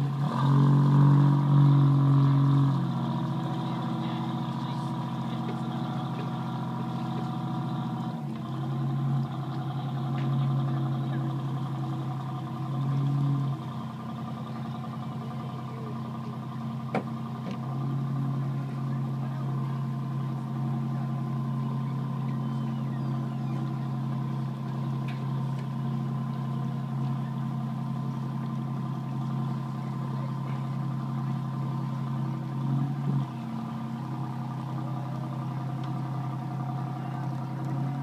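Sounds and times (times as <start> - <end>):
boat engine idling: 0.0 - 38.0.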